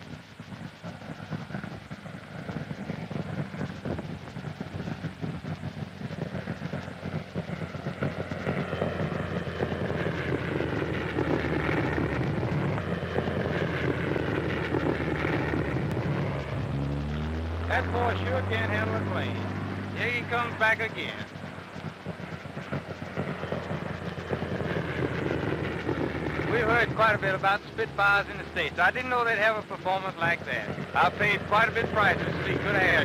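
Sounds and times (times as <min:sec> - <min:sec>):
piston engine aircraft drone: 0:00.0 - 0:33.0.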